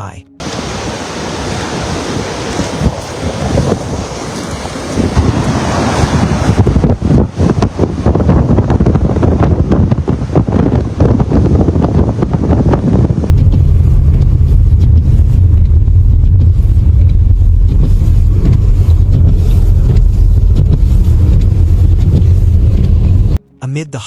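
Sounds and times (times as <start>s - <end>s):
low vehicle rumble: 0.0s - 24.0s
wind buffeting microphone: 0.4s - 23.4s.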